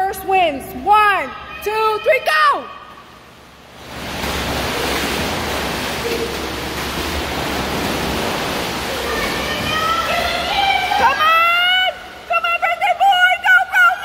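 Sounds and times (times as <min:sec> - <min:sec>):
swimmers splashing water: 0:01.4 - 0:14.0.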